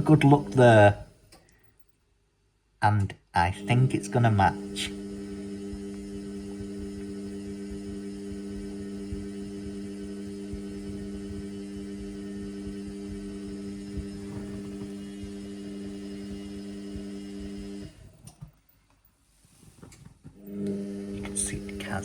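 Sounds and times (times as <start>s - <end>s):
washing machine humming: 0.0s - 1.3s, 3.5s - 18.3s, 20.4s - 22.0s.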